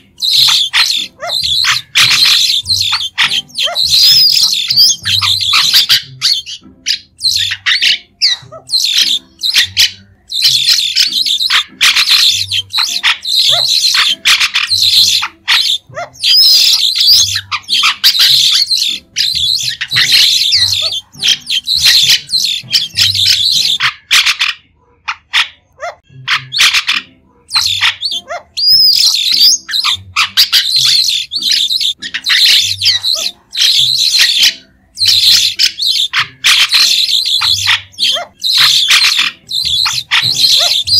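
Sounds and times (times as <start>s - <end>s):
starlings chattering: 0.0s - 40.9s.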